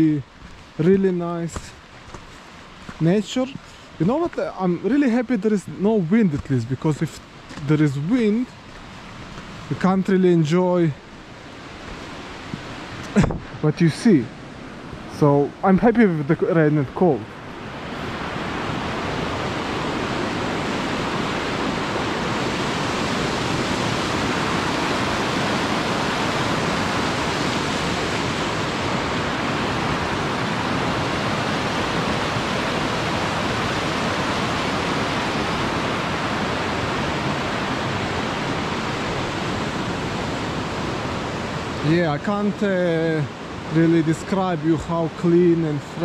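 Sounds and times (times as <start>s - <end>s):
water rushing: 0.0s - 46.0s.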